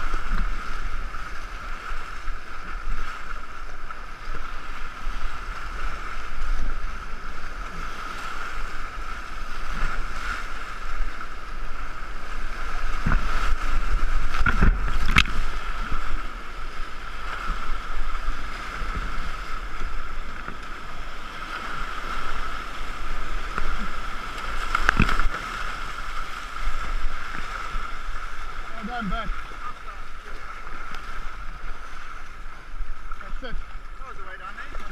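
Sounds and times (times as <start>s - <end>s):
paddle strokes: 0.0s - 34.9s
rushing splashing water: 0.0s - 34.9s.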